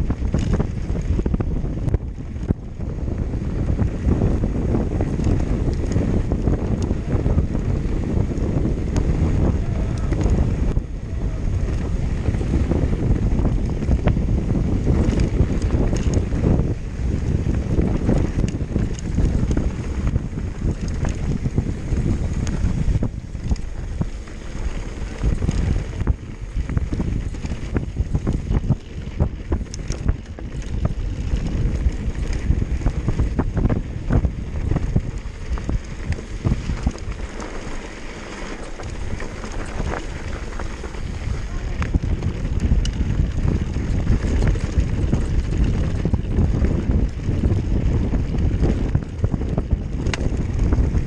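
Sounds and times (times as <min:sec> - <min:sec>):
bike knocks and rattles: 0:00.0 - 0:51.0
wind buffeting microphone: 0:00.0 - 0:51.0.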